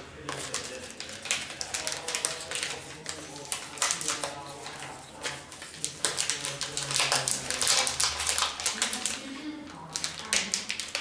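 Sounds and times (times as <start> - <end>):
chocolate wrapper crinkling: 0.2 - 11.0.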